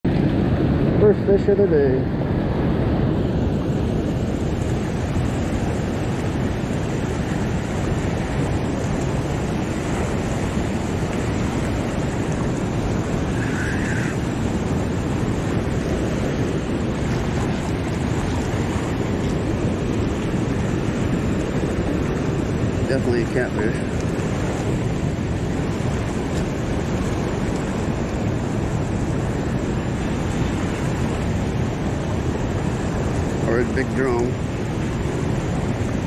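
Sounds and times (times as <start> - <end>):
wind buffeting microphone: 0.0 - 36.0
water rushing through spillway: 0.1 - 36.0.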